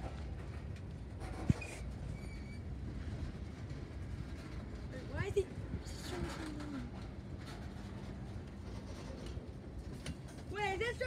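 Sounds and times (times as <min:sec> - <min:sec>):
train cars rolling on rails: 0:00.0 - 0:11.0.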